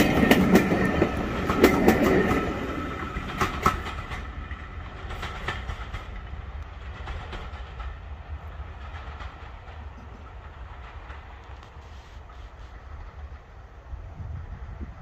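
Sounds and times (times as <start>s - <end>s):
train wheels clicking over rail joints: 0.0s - 13.7s.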